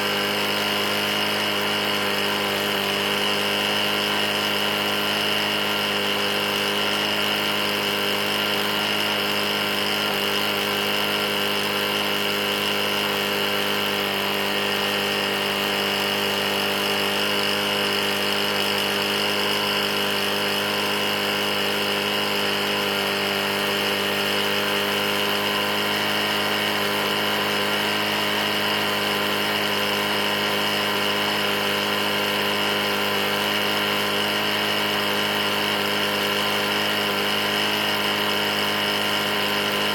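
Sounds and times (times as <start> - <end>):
lawn mower engine knocking: 0.0 - 39.9.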